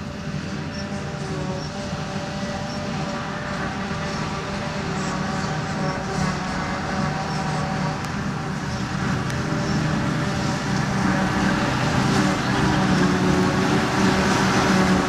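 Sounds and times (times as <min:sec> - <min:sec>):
diesel farm machinery running: 0:00.0 - 0:15.0.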